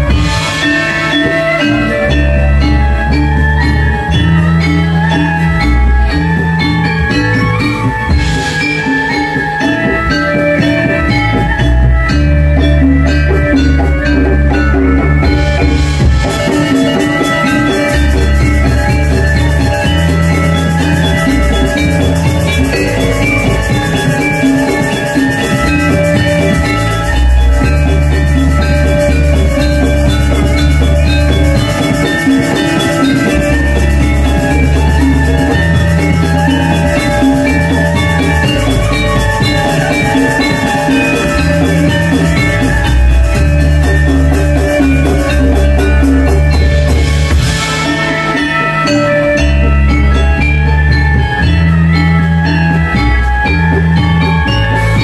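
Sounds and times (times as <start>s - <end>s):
drumming: 0.0s - 55.0s
metallophones ringing: 0.0s - 55.0s.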